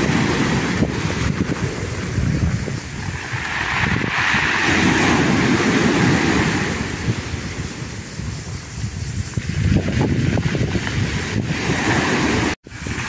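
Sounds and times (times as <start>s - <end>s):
waves washing on pebbly shore: 0.0s - 8.4s, 10.0s - 13.0s.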